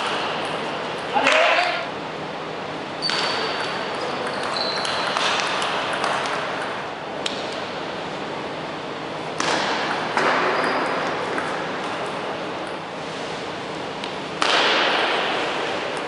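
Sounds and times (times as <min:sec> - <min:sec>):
echoing sports hall noise: 0:00.0 - 0:16.0.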